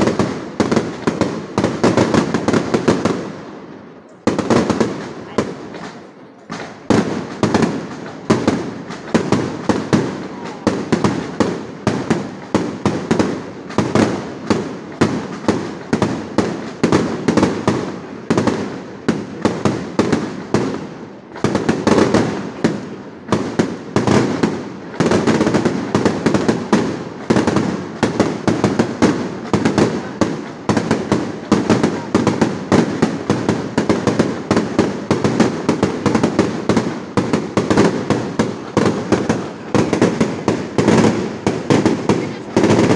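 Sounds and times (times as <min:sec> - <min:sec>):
fireworks bursts and bangs: 0:00.0 - 0:42.9.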